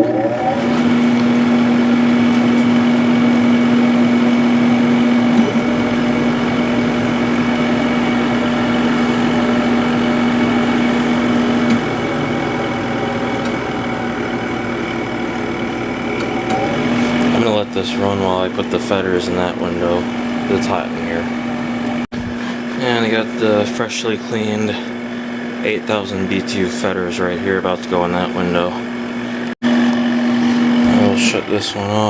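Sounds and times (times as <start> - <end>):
air conditioner fan humming: 0.0 - 32.0.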